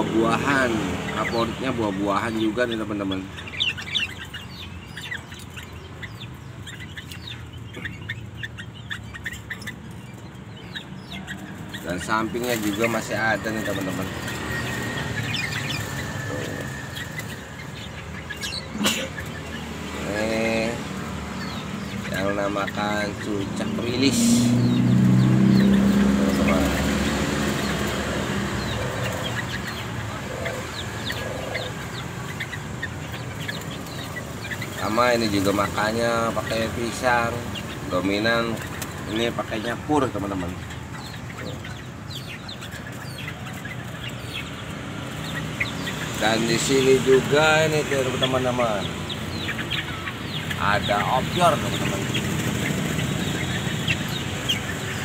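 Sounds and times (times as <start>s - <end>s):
chicken clucking: 0.0s - 55.0s
songbirds chirping: 0.0s - 55.0s.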